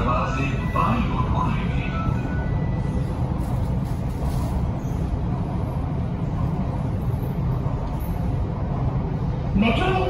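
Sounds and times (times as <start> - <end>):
train rumbling on elevated track: 0.0 - 10.0.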